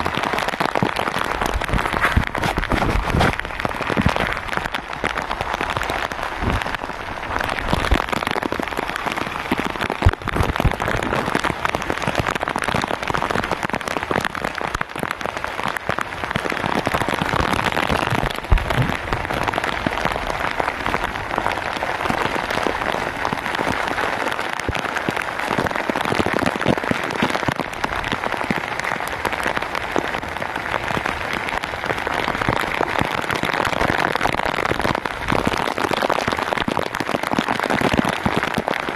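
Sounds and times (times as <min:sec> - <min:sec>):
rain falling on sea and boat: 0:00.0 - 0:38.9.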